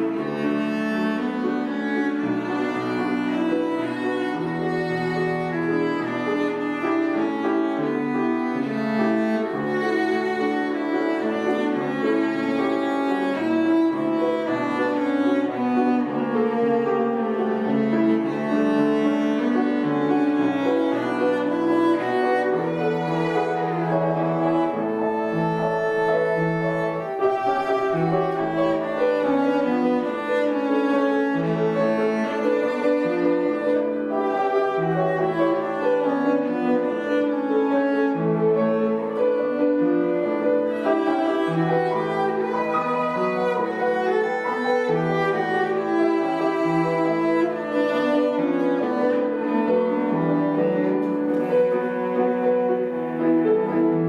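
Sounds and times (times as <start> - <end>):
bowed string instrument melody: 0.0 - 54.0
piano accompaniment: 0.0 - 54.0.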